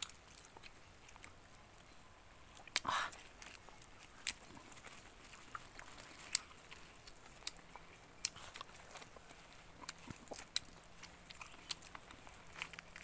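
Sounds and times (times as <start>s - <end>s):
chewing and lip-smacking: 0.0s - 13.0s.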